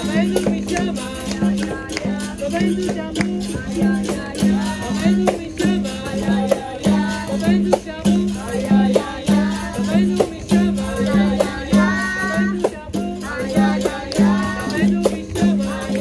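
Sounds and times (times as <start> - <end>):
hand percussion even beat: 0.0 - 16.0
voices singing: 0.0 - 16.0.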